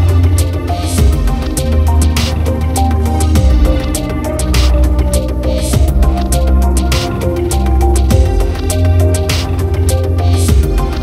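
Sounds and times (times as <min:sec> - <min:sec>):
music with heavy bass and beat: 0:00.0 - 0:11.0.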